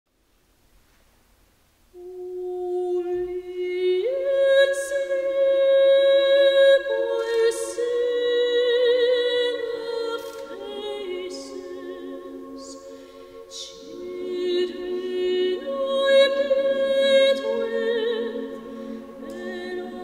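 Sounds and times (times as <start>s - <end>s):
choir singing a cappella: 2.0s - 20.0s.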